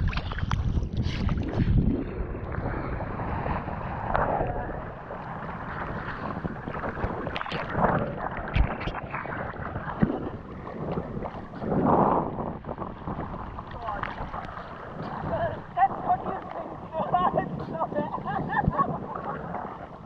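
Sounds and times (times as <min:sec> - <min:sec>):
sea water lapping and splashing: 0:00.0 - 0:20.0
wind on microphone: 0:00.0 - 0:20.0.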